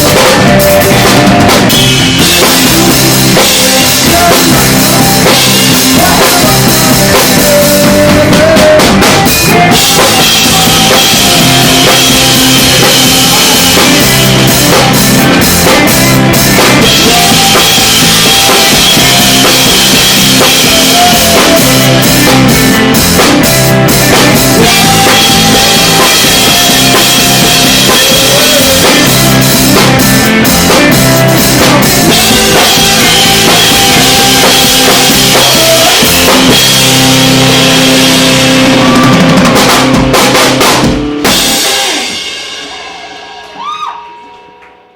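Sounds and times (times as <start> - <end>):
band playing live: 0.0 - 44.9
drum kit hits: 0.0 - 44.9.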